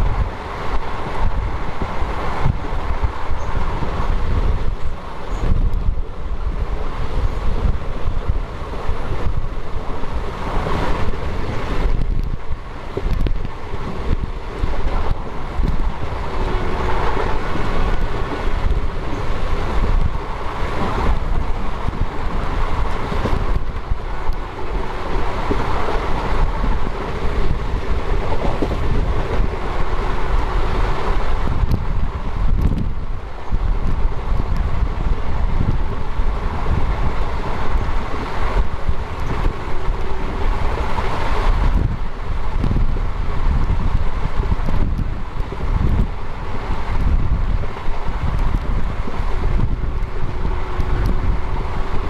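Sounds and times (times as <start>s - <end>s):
train wheels rumbling on rails: 0.0s - 52.0s
wind buffeting microphone: 0.0s - 52.0s.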